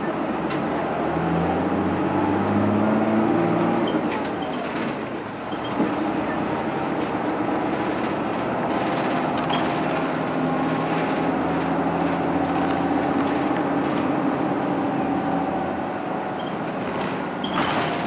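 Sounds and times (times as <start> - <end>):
bus diesel engine droning: 0.0 - 18.0
road and tyre noise: 0.0 - 18.0.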